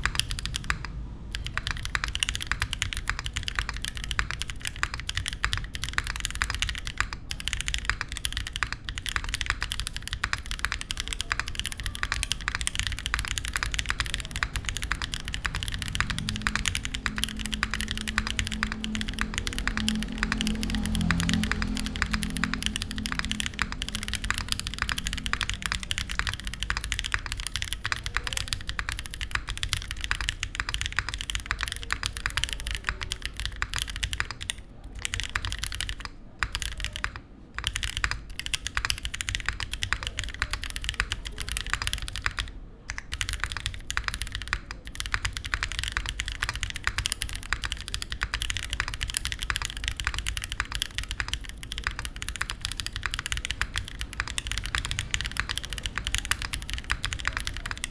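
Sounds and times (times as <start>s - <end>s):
mechanical keyboard typing: 0.0s - 57.9s.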